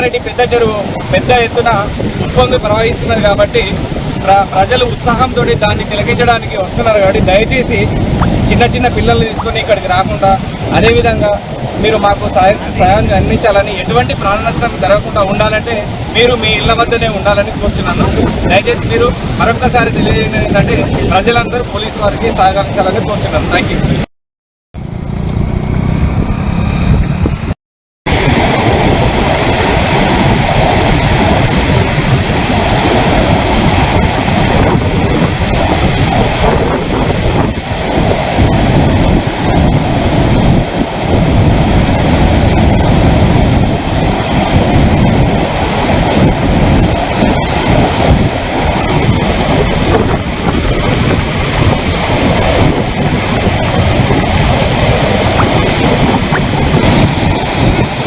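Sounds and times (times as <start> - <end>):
water rushing over weir: 0.0 - 24.1, 28.1 - 58.0
wind buffeting microphone: 0.0 - 24.1, 24.9 - 58.0.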